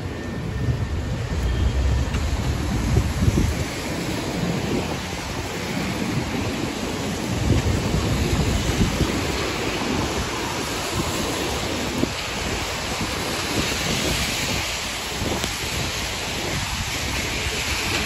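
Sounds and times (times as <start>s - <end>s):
rain hissing on wet street: 0.0s - 18.0s
wind buffeting microphone: 0.0s - 18.0s.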